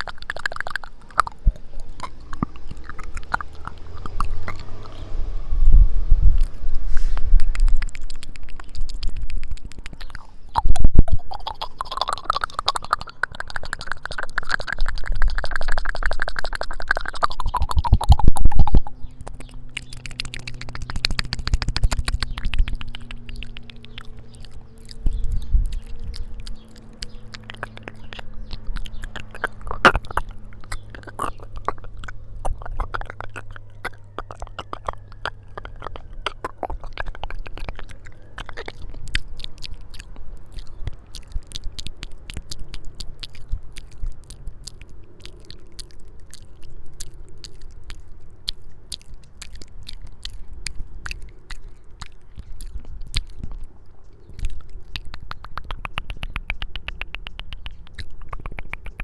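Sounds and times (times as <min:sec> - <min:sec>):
lip and tongue clicks: 0:00.0 - 0:59.0
low steady hum: 0:00.0 - 0:59.0.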